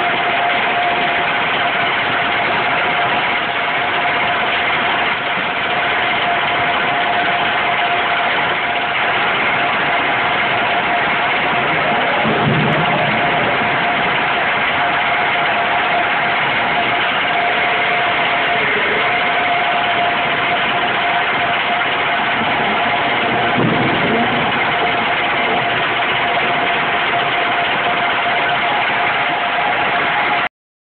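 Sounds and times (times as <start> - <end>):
machinery whine: 0.0 - 30.5.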